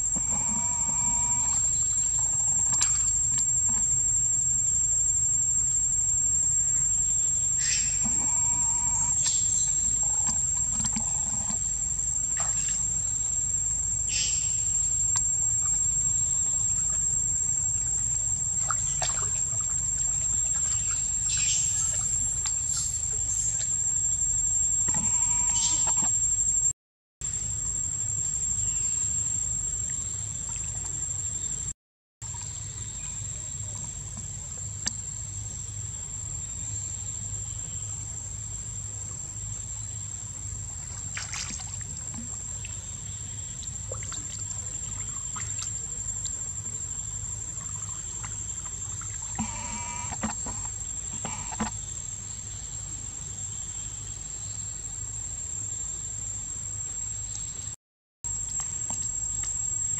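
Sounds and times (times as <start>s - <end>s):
crickets droning: 0.0s - 59.9s.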